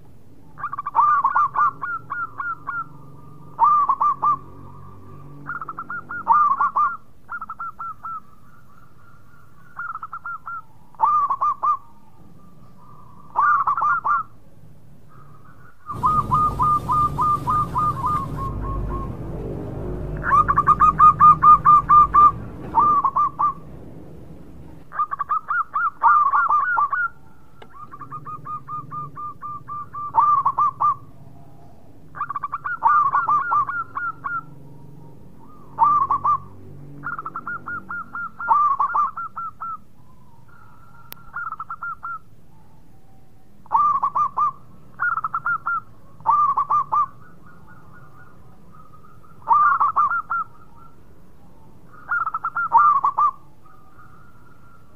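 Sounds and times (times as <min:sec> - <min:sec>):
dove cooing: 0:00.5 - 0:14.4, 0:15.1 - 0:42.8, 0:43.6 - 0:54.9.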